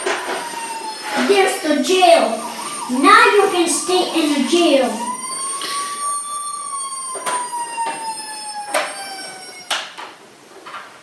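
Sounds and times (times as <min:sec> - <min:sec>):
siren-like wail: 0:00.0 - 0:10.1.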